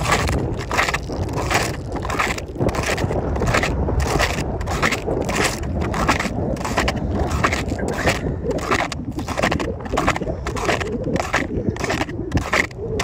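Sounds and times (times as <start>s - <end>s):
snowshoes crunching on snow: 0.0s - 12.7s
wind rumbling on microphone: 0.0s - 13.0s.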